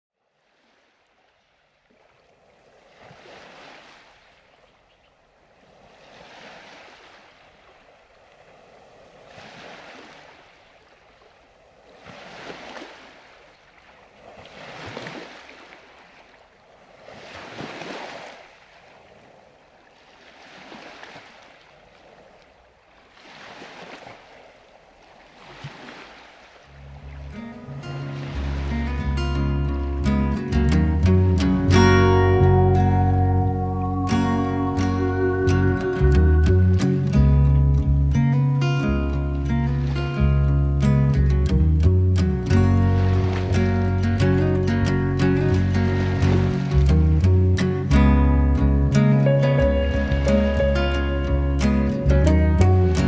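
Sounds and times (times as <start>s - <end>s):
sea waves washing in: 0.4s - 53.0s.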